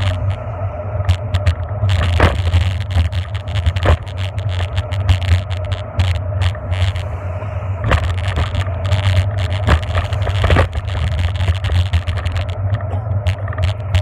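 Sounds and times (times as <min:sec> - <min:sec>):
bike clicks and rattles: 0:00.0 - 0:07.2, 0:07.8 - 0:14.0
wind rumbling on microphone: 0:00.0 - 0:14.0.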